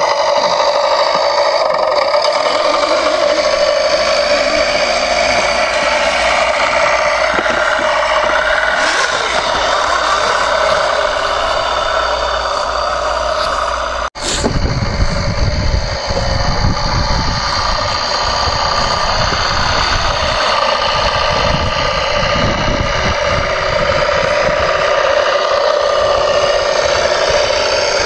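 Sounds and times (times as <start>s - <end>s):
toy truck motor whining: 0.0s - 28.0s.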